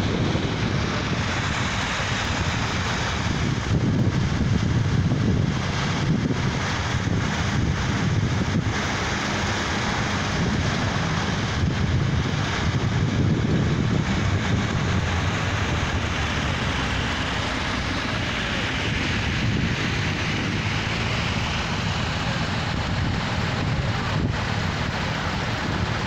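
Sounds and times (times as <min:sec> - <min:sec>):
tractor engines running: 0:00.0 - 0:26.0
wind buffeting microphone: 0:00.0 - 0:26.0.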